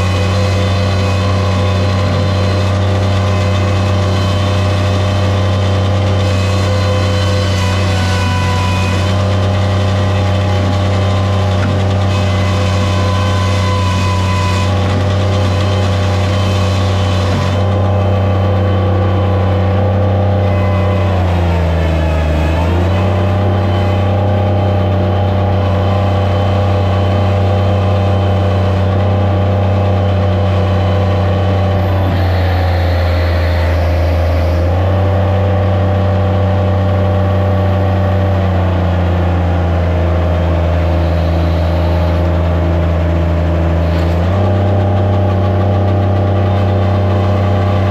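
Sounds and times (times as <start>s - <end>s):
skid steer engine running: 0.0s - 47.9s.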